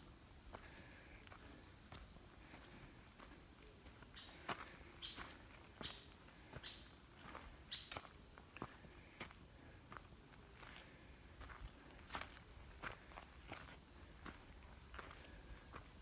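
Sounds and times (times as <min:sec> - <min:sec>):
insects chorus: 0:00.0 - 0:16.0
footsteps on forest path: 0:00.5 - 0:16.0.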